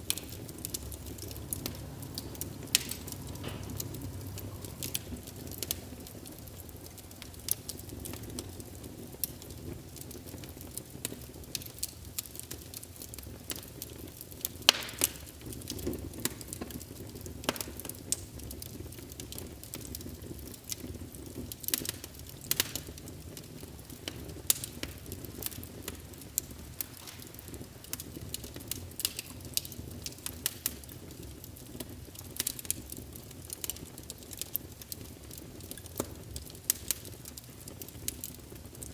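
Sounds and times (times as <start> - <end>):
crackling wood fire from speaker: 0.0 - 38.9.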